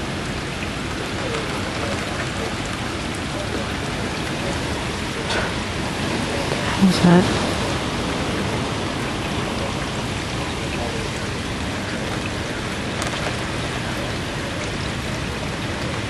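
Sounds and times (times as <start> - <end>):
rain: 0.0 - 16.0
strong wind: 0.0 - 16.0.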